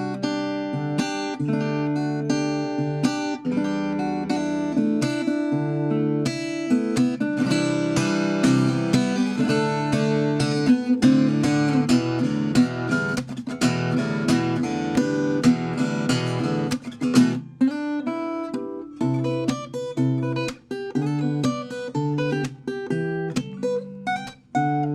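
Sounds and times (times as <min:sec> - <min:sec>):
acoustic guitar chords: 0:00.0 - 0:24.9.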